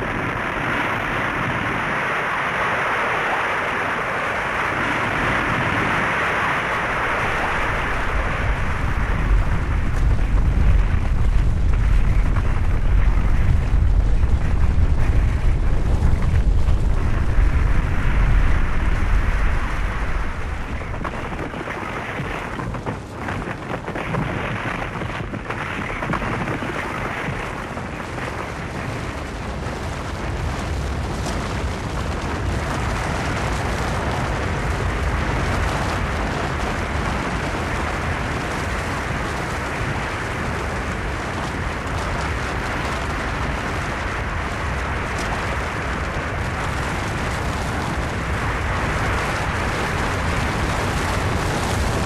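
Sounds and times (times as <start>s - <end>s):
avalanche rushing and rumbling: 0.0s - 52.0s.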